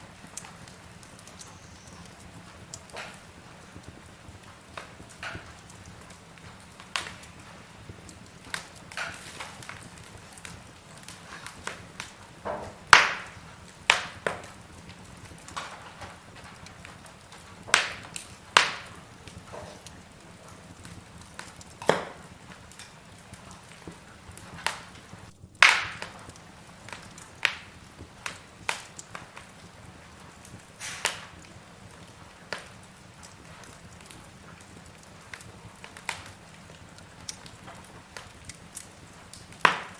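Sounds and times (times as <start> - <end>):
fire crackling and popping: 0.0 - 39.9
low fire hiss: 0.0 - 39.9.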